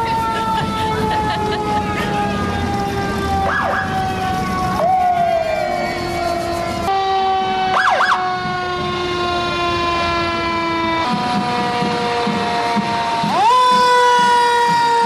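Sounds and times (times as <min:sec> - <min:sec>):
emergency vehicle sirens: 0:00.0 - 0:15.0
siren whoop: 0:00.0 - 0:15.0.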